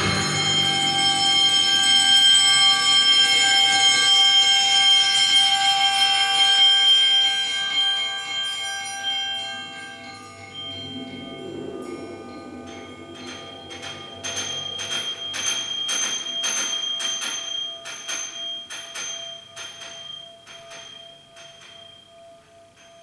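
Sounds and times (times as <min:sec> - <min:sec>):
mallet instruments and bells ringing: 0:00.0 - 0:23.0.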